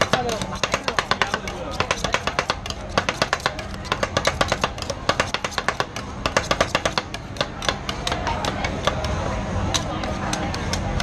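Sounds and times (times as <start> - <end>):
metal spatulas clacking on steel: 0.0 - 11.0.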